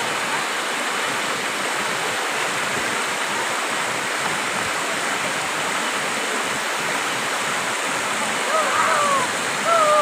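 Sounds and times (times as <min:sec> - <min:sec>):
waterfall pouring into pool: 0:00.0 - 0:10.0.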